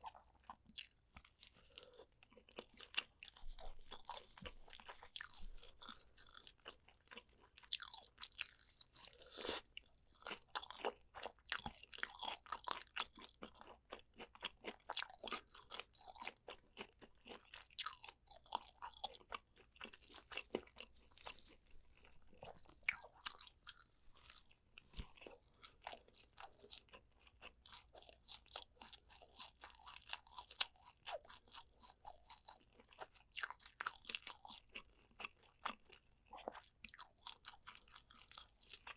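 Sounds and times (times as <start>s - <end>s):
person biting and chewing: 1.7s - 38.9s.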